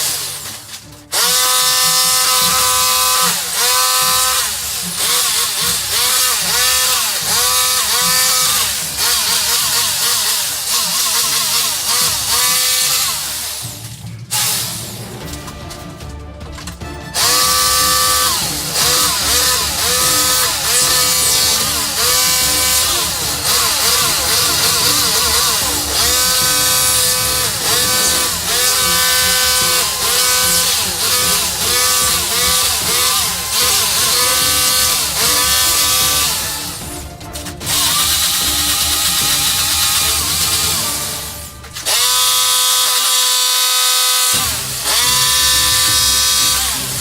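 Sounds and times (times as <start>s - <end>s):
music with gliding melody: 0.0s - 43.6s.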